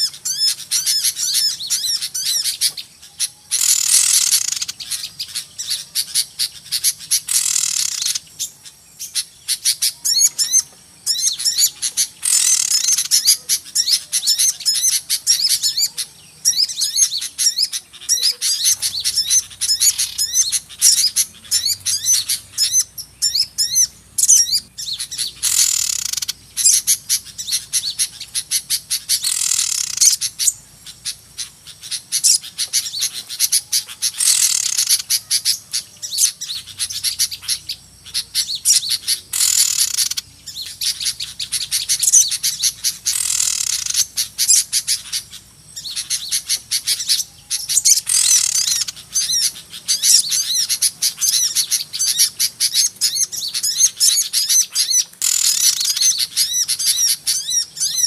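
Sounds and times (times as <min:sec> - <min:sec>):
buzzy bird call bursts: 0:00.0 - 0:08.3, 0:11.2 - 0:16.0, 0:16.8 - 0:58.0
small birds chirping and trilling: 0:00.0 - 0:58.0.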